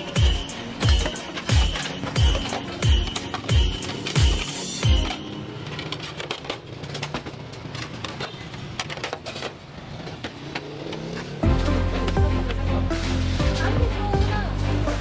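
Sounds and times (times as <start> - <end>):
plastic plates clattering: 0.0 - 13.8.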